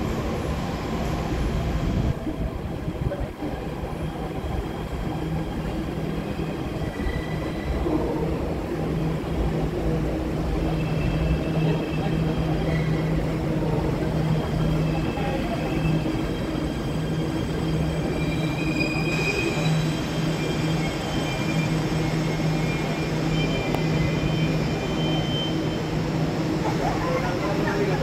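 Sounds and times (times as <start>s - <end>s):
metro train rumble and hum: 0.0s - 28.0s.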